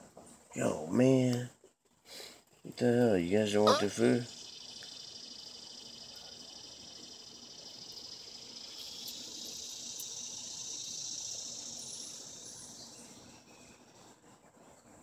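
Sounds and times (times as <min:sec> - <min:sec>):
insects trilling: 0:02.1 - 0:14.4.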